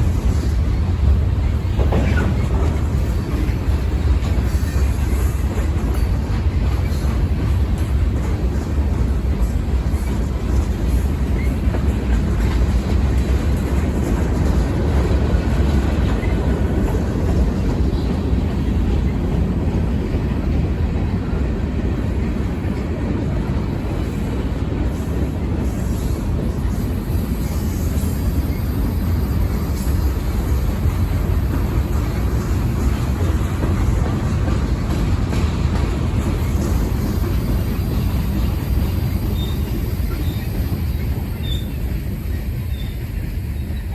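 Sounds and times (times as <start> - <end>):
freight train rumbling past: 0.0 - 43.9.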